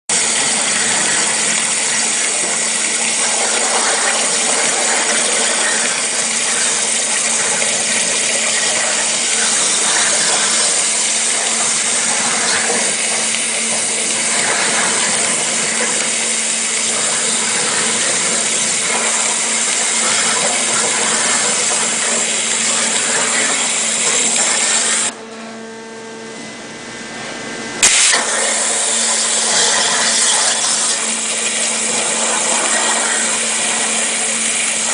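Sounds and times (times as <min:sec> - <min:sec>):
high-pressure water jet hissing: 0:00.1 - 0:25.1, 0:27.8 - 0:34.9
low machine hum: 0:00.1 - 0:34.9.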